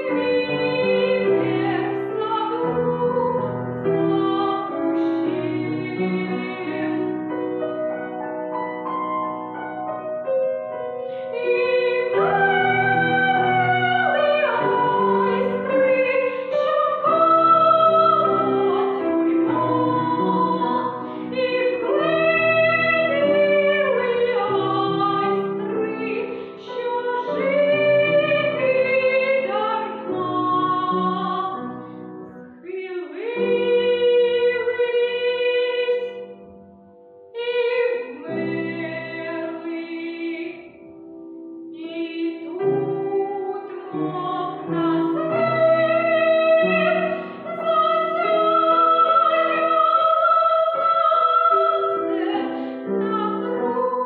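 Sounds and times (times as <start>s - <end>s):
woman singing classically: 0.0s - 7.3s, 11.3s - 31.6s, 32.6s - 36.3s, 37.4s - 40.8s, 41.8s - 54.0s
grand piano accompaniment: 0.0s - 54.0s.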